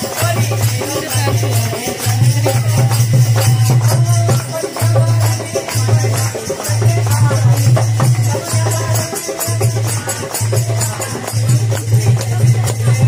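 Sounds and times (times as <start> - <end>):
group singing devotional song: 0.0 - 13.0
rhythmic percussion strikes: 0.0 - 13.0.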